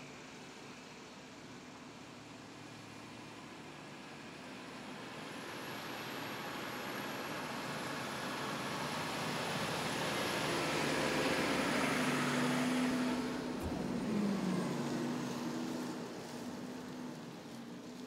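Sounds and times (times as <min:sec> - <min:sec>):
fire truck diesel engine: 0:00.0 - 0:18.0.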